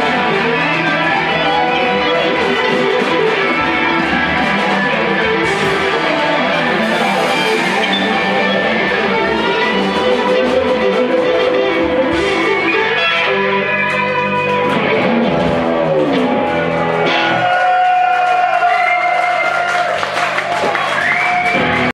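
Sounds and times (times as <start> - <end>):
bass: 0.0 - 21.9
drums: 0.0 - 21.9
electric guitars: 0.0 - 21.9.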